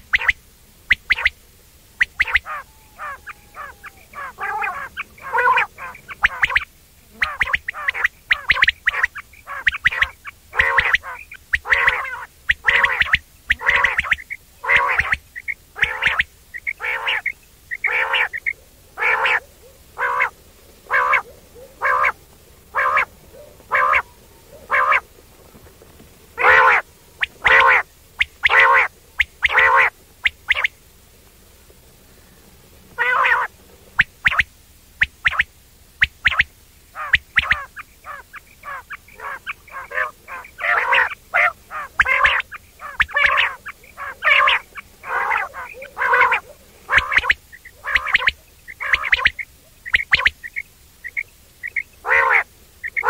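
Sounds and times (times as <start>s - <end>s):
quail calling: 0.0s - 1.4s, 2.0s - 30.9s, 32.1s - 53.0s.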